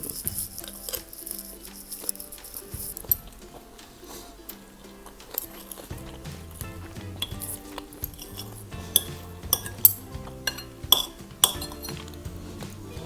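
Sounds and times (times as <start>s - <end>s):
cutlery clinking against dish: 0.0s - 6.5s, 7.2s - 12.2s
background music with bass line: 0.0s - 13.0s.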